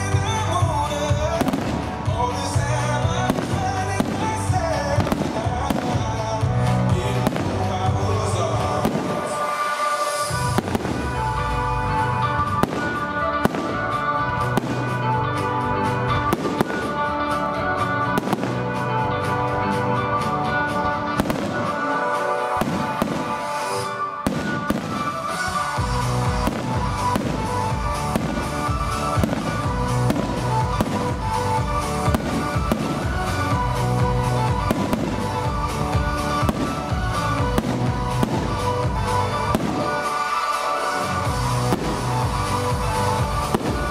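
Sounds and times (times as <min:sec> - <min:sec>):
fireworks bursting: 0:00.0 - 0:19.4, 0:20.6 - 0:43.9
music with long held tones: 0:00.0 - 0:43.9.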